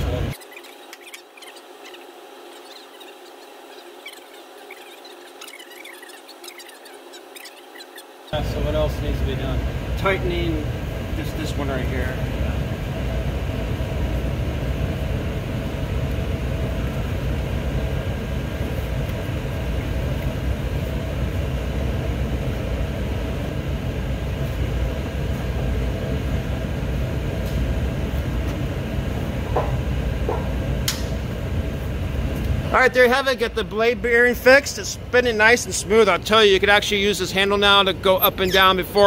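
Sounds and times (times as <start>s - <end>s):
low mechanical rumble with hum: 0.0s - 39.0s.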